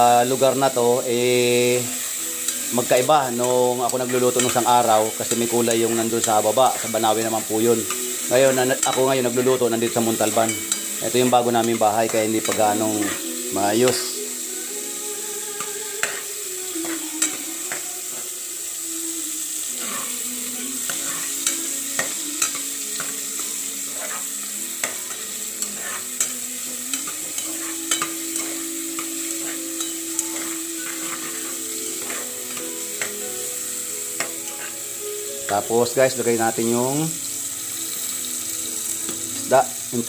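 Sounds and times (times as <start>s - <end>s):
vegetables sizzling in oil: 0.0s - 40.0s.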